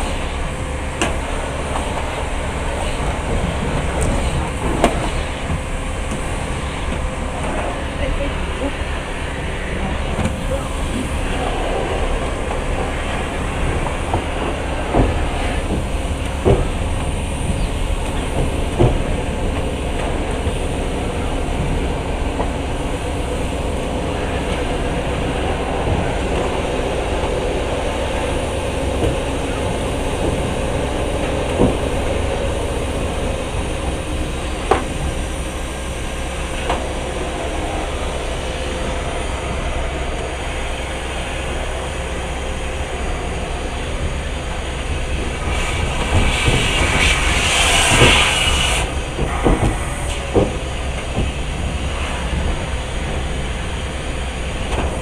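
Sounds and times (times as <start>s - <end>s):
train hum: 0.0s - 55.0s
train wheels rumbling on rails: 0.0s - 55.0s.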